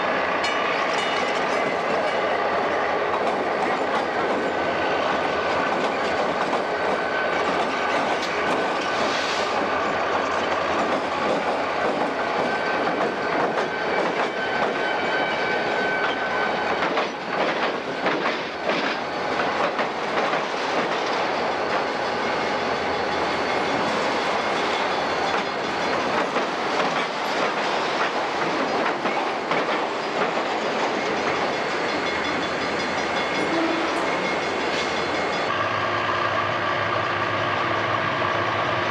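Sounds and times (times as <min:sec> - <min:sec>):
freight train rumbling past: 0:00.0 - 0:38.9
wheels clacking over rail joints: 0:03.0 - 0:14.9, 0:15.8 - 0:35.5.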